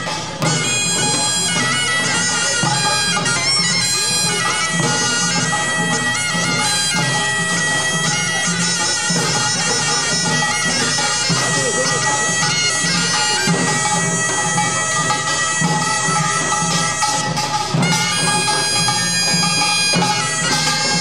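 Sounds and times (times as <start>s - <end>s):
drums beating a steady rhythm: 0.0s - 21.0s
shrill reedy wind instrument: 0.0s - 21.0s.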